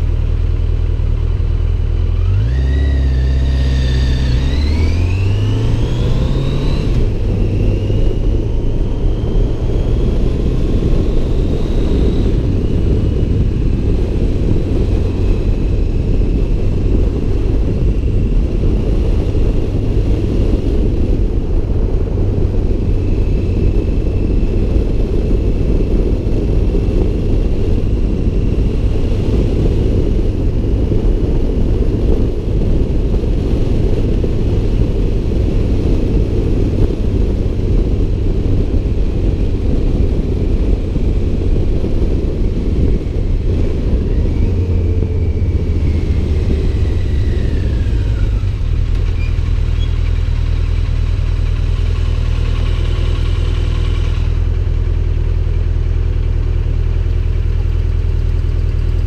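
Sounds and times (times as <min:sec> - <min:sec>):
motorcycle engine running: 0:00.0 - 0:59.0
wind rushing on microphone: 0:00.0 - 0:59.0.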